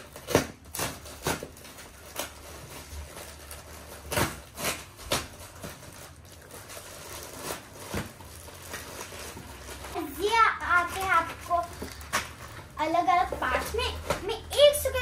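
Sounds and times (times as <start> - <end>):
cardboard and tape ripping: 0.0 - 15.0.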